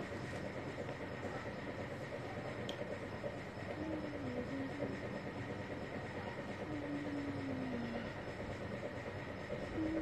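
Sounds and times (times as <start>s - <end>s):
mechanical rumble: 0.0s - 10.0s.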